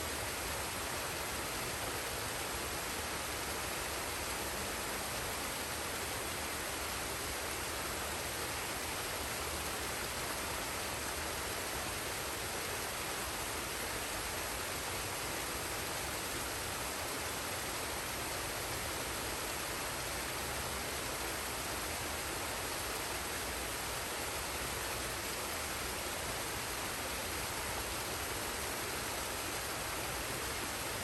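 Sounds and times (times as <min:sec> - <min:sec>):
rushing waterfall and stream: 0:00.0 - 0:31.0.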